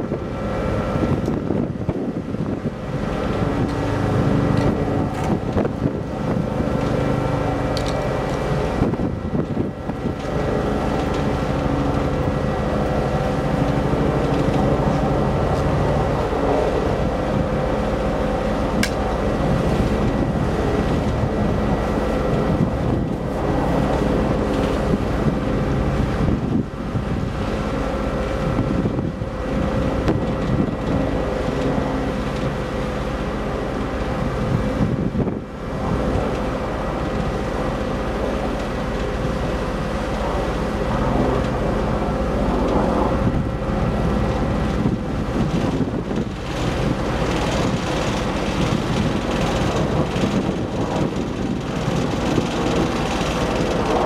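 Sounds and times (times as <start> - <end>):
ship engines droning: 0.0 - 54.0
wind buffeting microphone: 0.0 - 54.0.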